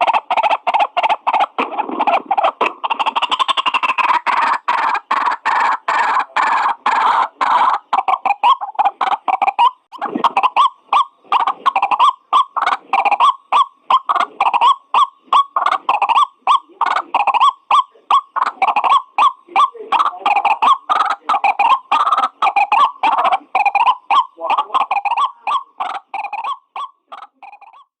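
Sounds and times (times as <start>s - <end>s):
waterhen croaking calls: 0.0s - 28.0s.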